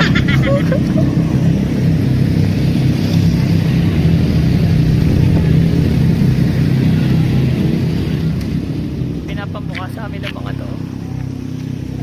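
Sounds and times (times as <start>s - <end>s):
road noise: 0.0s - 12.0s
vehicle engine running: 0.0s - 12.0s
wind noise: 0.0s - 12.0s.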